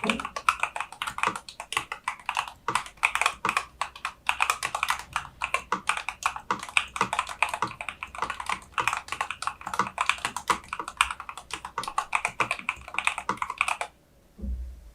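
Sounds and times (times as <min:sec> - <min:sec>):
fast keyboard typing: 0:00.0 - 0:13.9.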